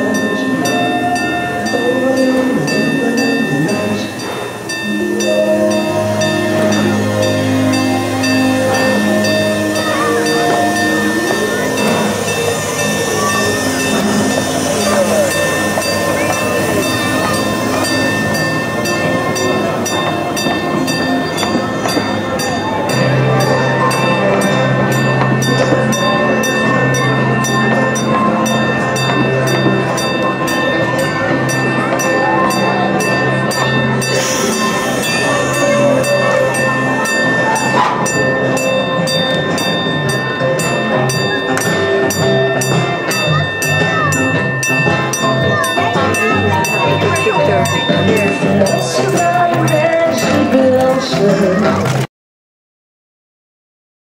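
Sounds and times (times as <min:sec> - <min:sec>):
railroad crossing bell ringing: 0:00.0 - 0:51.6
christmas music: 0:00.0 - 0:52.1
train cars rolling past: 0:00.0 - 0:52.1.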